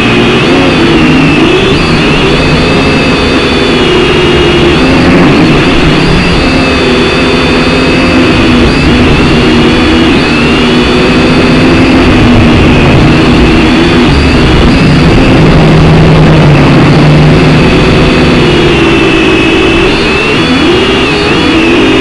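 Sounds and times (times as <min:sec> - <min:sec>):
quadcopter motors buzzing: 0:00.0 - 0:22.0.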